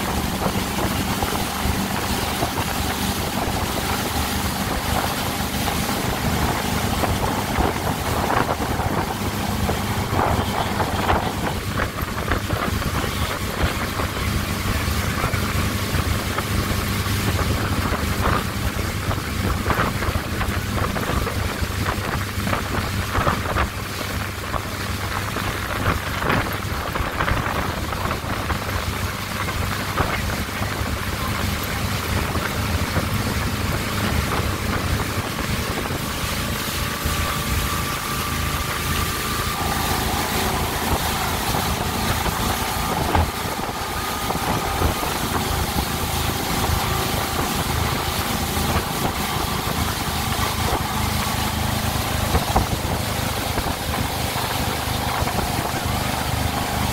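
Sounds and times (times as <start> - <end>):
motorboat engine drone: 0.0 - 56.9
rushing water of wake: 0.0 - 56.9
wind buffeting microphone: 0.0 - 56.9.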